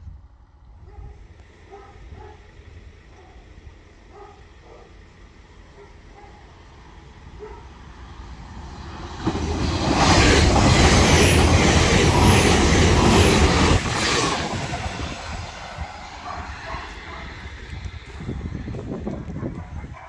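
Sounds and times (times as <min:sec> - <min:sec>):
train passing at speed: 0:00.2 - 0:20.0.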